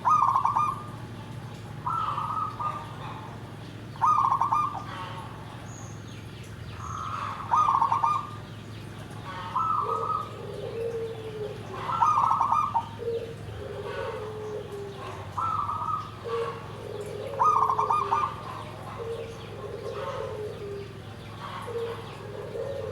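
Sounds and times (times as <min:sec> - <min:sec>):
dove cooing: 0:00.0 - 0:01.1, 0:01.8 - 0:03.4, 0:04.0 - 0:05.4, 0:07.1 - 0:08.4, 0:09.3 - 0:22.9.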